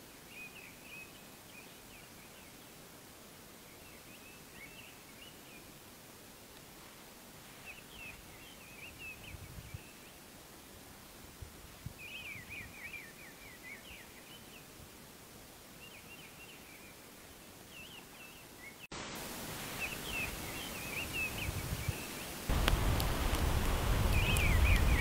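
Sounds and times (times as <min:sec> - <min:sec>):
faint outdoor hiss: 0:00.0 - 0:25.0
songbirds chirping: 0:00.0 - 0:25.0.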